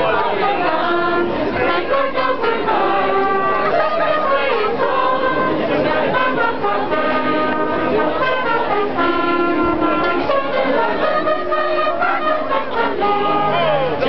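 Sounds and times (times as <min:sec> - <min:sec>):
choir singing a carol: 0:00.0 - 0:14.0.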